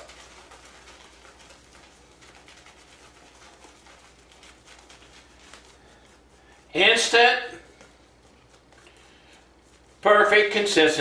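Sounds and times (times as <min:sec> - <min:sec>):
shaving brush lathering foam: 0:00.0 - 0:11.0.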